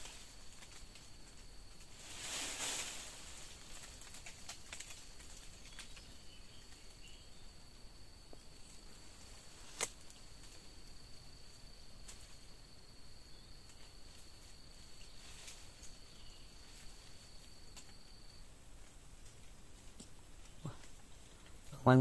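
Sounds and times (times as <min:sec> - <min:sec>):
branches and leaves rustling: 0:00.0 - 0:22.0.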